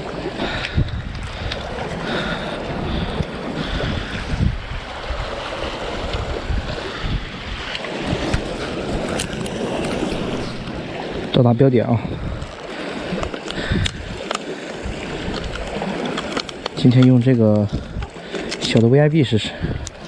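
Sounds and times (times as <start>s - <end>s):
sea waves washing on shore: 0.0s - 20.0s
wind buffeting microphone: 0.0s - 20.0s.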